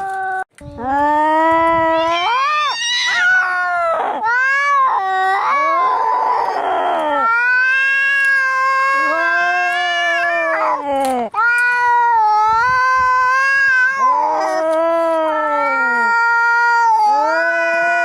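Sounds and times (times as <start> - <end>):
cats yowling: 1.1 - 10.8, 11.4 - 18.0.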